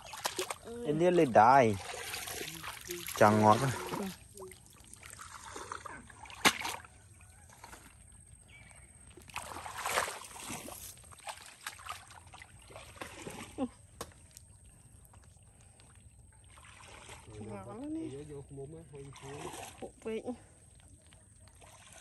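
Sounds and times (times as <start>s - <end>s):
muddy water sloshing and splashing: 0.0s - 22.0s.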